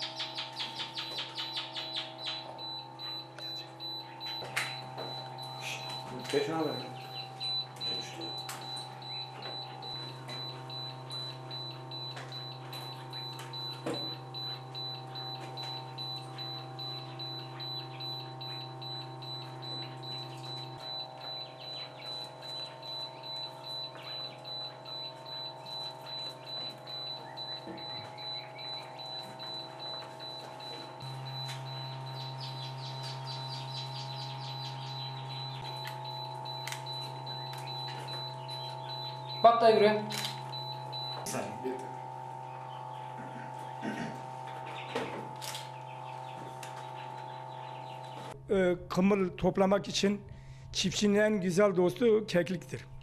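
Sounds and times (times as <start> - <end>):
chicks cheeping: 0.0 - 48.4
incubator electric hum: 0.0 - 53.0.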